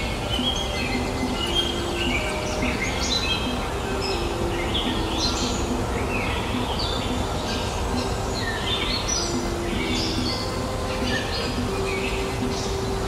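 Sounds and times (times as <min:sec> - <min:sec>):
parakeets calling: 0:00.0 - 0:13.0.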